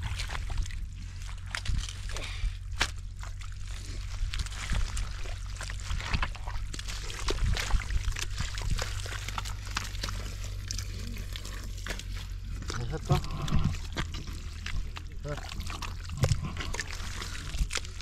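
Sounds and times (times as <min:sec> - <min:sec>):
steady low hum: 0:00.0 - 0:18.0
water splashing in shallow water: 0:00.0 - 0:18.0.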